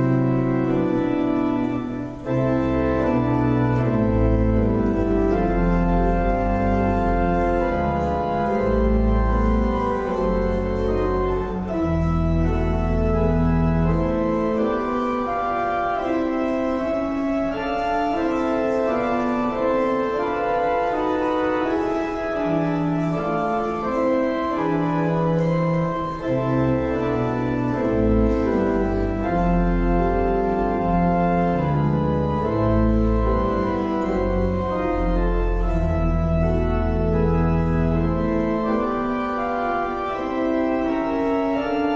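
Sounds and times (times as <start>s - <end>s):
church organ chords: 0.0s - 41.9s.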